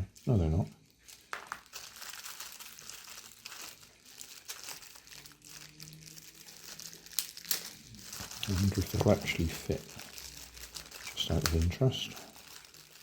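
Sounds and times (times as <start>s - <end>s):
plastic leads and packaging rustling: 0.0s - 13.0s.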